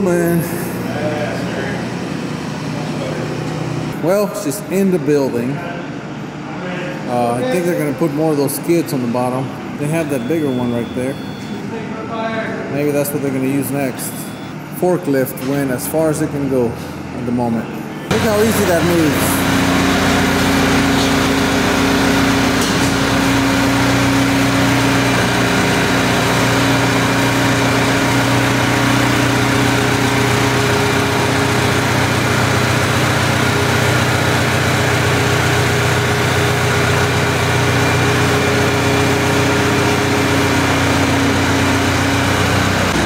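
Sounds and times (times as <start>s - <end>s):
diesel engine running: 0.0s - 11.6s, 12.6s - 43.0s.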